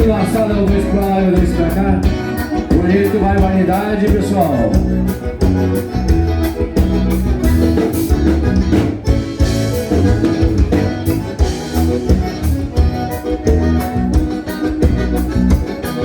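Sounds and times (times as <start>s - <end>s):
instrumental dance music from a band: 0.0s - 16.0s.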